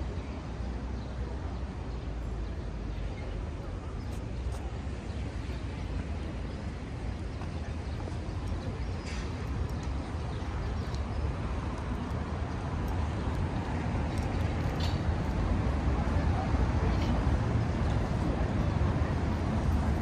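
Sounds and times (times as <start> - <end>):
traffic rumble: 0.0 - 20.0
crowd noise: 1.2 - 20.0.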